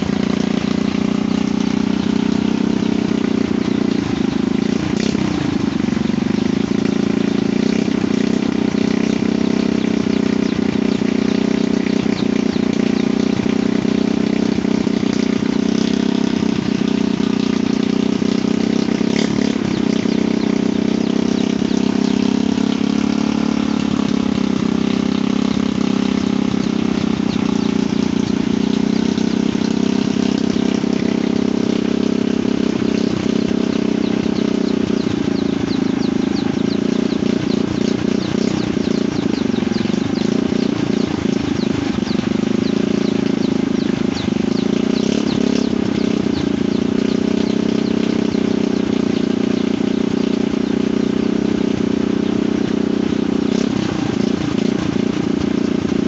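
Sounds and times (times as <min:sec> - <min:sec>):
small engine driving winch: 0:00.0 - 0:56.0.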